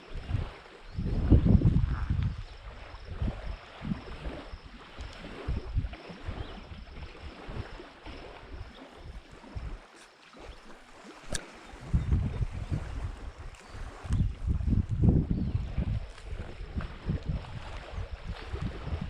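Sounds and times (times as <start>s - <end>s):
wind gusting on microphone: 0.1s - 9.8s, 10.4s - 19.0s.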